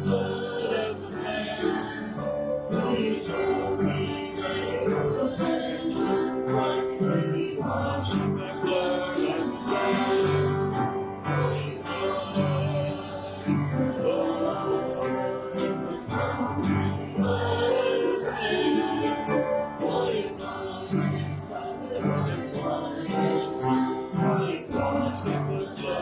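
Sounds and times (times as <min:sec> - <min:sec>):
guitar: 0:00.0 - 0:26.0
people singing: 0:00.0 - 0:26.0.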